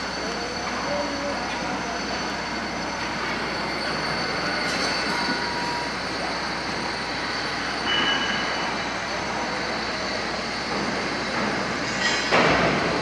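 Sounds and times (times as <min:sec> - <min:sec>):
steady mechanical noise: 0:00.0 - 0:13.0.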